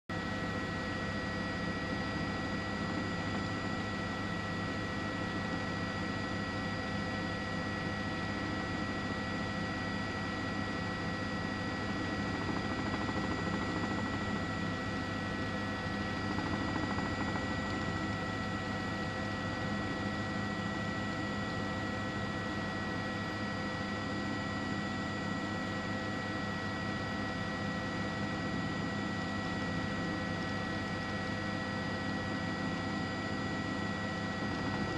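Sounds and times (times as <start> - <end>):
helicopter engine and rotor drone: 0.1 - 34.9.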